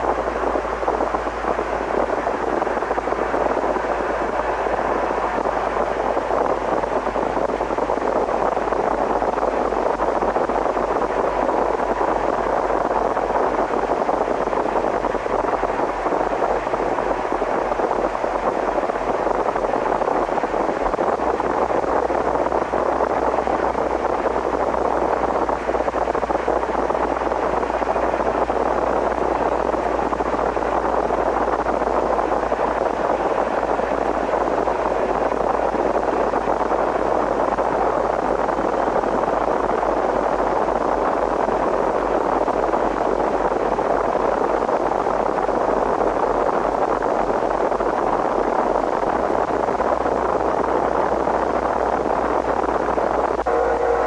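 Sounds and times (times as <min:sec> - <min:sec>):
low hum: 0:00.0 - 0:43.7, 0:48.6 - 0:54.0
static hiss: 0:00.0 - 0:54.0.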